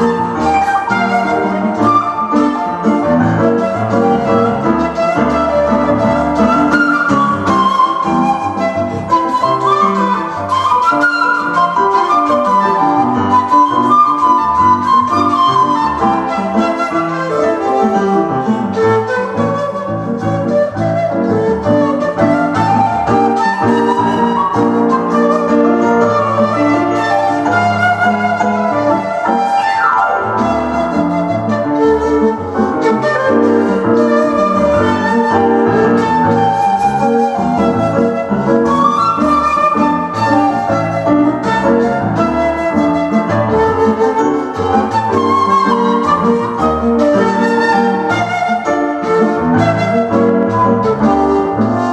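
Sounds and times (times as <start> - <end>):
bamboo flute long notes: 0.0 - 51.9
piano accompaniment: 0.0 - 51.9
shakuhachi melody with pitch bends: 0.0 - 51.9.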